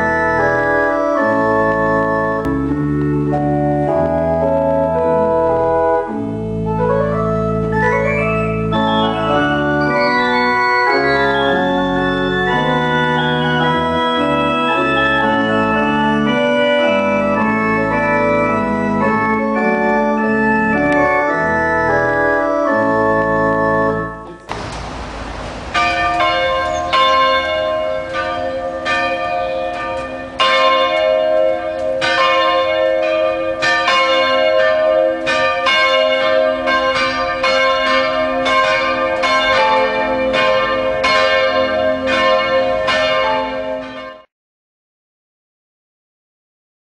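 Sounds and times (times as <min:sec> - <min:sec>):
organ music: 0:00.0 - 0:44.2
church bells ringing: 0:00.0 - 0:44.3.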